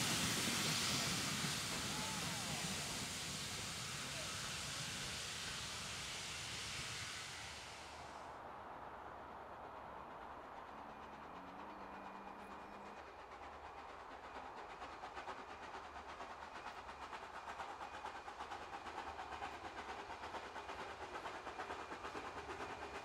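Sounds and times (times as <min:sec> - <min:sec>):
approaching train rhythmic beat: 0:00.0 - 0:07.9, 0:08.6 - 0:23.0.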